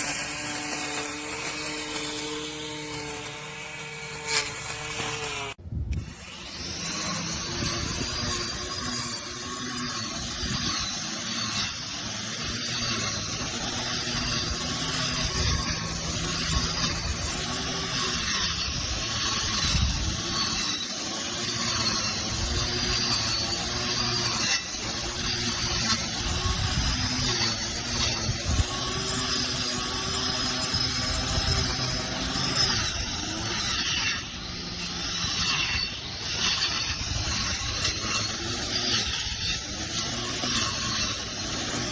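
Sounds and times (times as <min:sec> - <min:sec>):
electric weed trimmer whine: 0:00.0 - 0:41.9.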